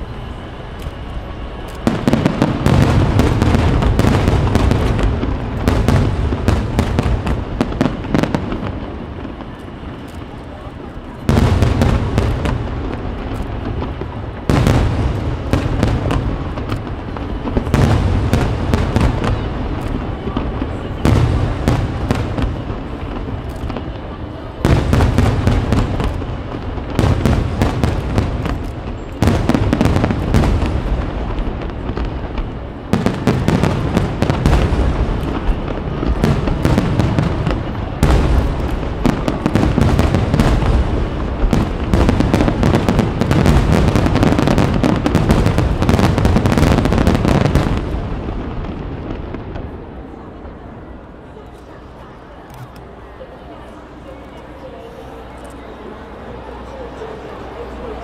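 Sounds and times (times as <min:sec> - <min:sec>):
fireworks booming and crackling: 0:00.0 - 0:58.0.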